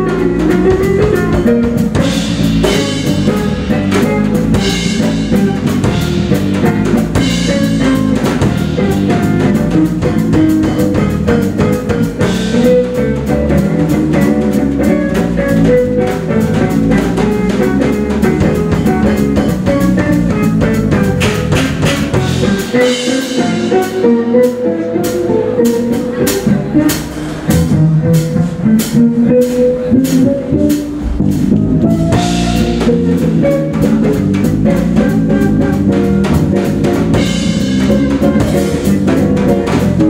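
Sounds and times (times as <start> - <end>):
saxophones holding notes: 0.0 - 27.8, 28.6 - 40.0
drum kit: 0.0 - 40.0
jazz band playing: 0.0 - 40.0.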